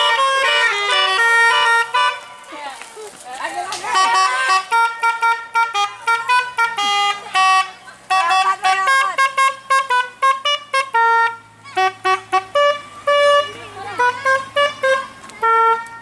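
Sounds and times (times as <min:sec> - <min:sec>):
multi-trumpet horn playing a tune: 0:00.0 - 0:02.4, 0:03.9 - 0:16.0.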